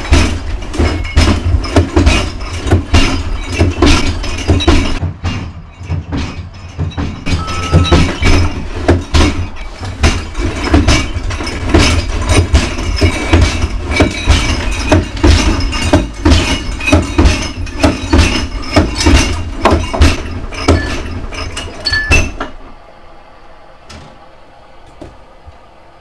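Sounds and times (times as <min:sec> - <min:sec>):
objects knocking and clinking: 0:00.0 - 0:22.6.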